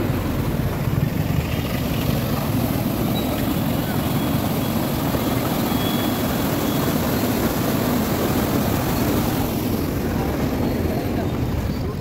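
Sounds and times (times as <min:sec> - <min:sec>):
water rushing over weir: 0:00.0 - 0:11.8.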